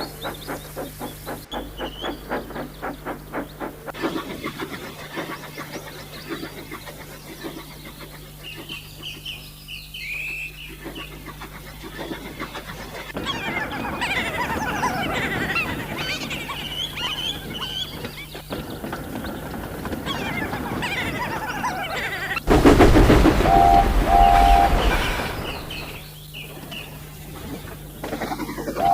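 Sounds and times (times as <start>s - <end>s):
steady low hum: 0.0s - 19.9s, 21.4s - 28.9s
birds calling: 0.0s - 28.9s.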